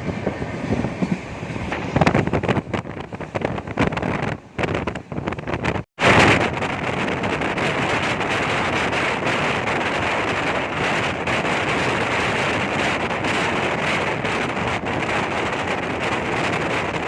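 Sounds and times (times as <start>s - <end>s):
moving train rushing: 0.0s - 17.0s
wind buffeting microphone: 0.0s - 17.0s.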